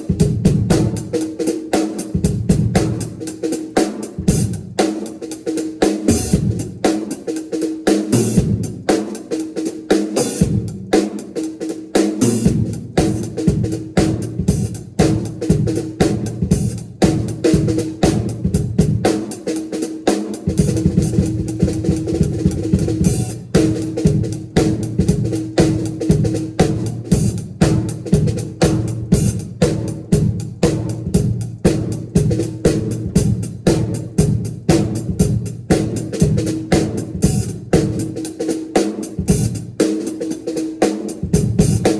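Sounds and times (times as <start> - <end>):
drum kit groove: 0.0 - 41.9.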